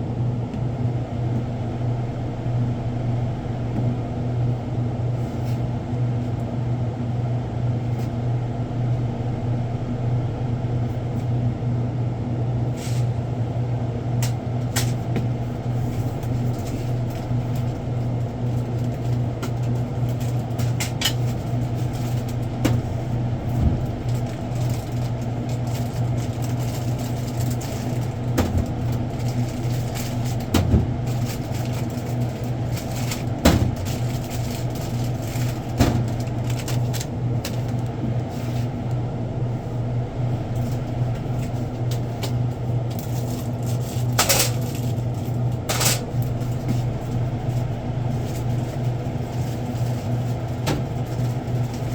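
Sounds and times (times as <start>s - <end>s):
low machine hum: 0.0s - 51.9s.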